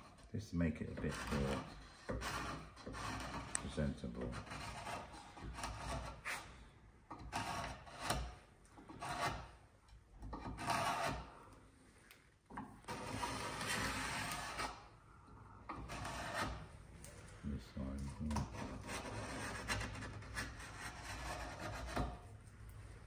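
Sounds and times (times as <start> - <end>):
chisel scraping wood: 0.0 - 11.5, 12.5 - 15.0, 15.6 - 16.7, 18.1 - 22.4.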